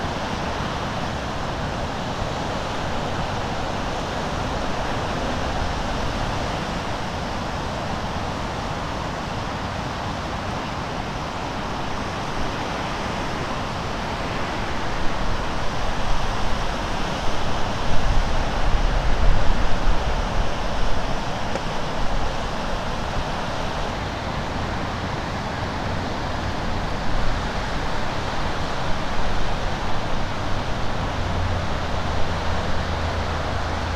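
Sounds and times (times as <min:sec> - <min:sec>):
surf breaking on shore: 0:00.0 - 0:33.9.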